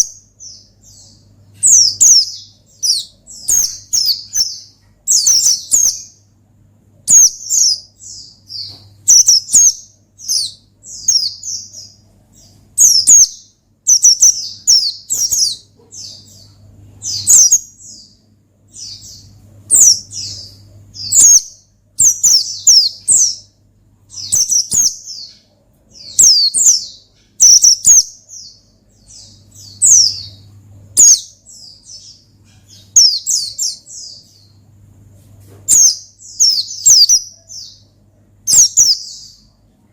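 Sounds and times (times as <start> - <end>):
bird singing high chirping phrases: 0.0 - 34.9, 35.7 - 39.9.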